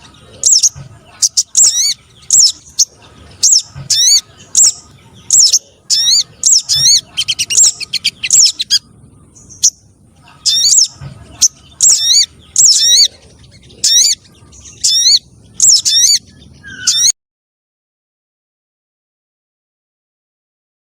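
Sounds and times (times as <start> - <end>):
bird chirps: 0.0 - 17.2.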